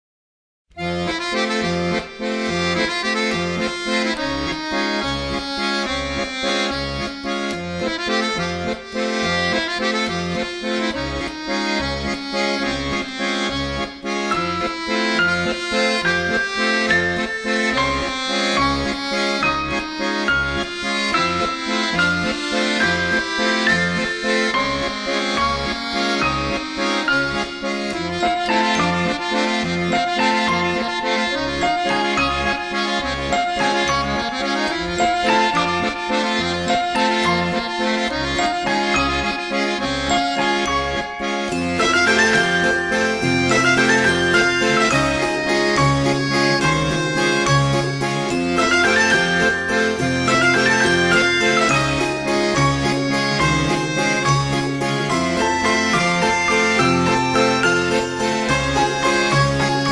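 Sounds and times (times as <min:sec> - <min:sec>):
accordion music with bass beat: 0:00.7 - 0:59.9.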